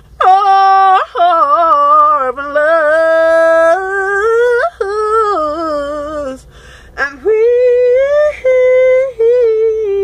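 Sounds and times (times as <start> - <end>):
woman singing unaccompanied: 0.1 - 10.0.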